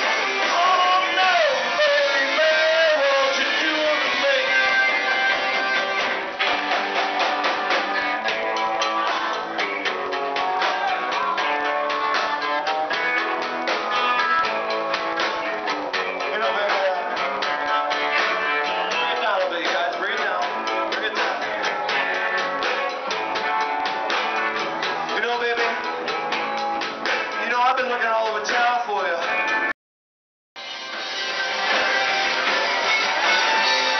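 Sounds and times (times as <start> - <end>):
drums: 0.0 - 29.7, 30.6 - 33.9
electric guitar: 0.0 - 29.7, 30.6 - 33.9
live band playing: 0.0 - 29.7, 30.6 - 33.9.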